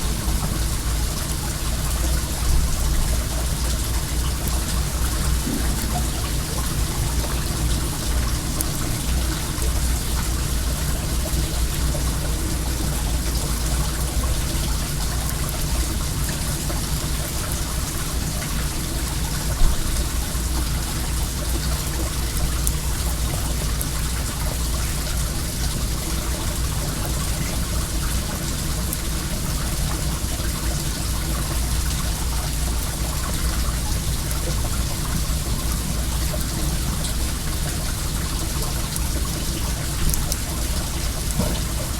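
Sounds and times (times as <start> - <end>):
water trickling and splashing: 0.0 - 41.9.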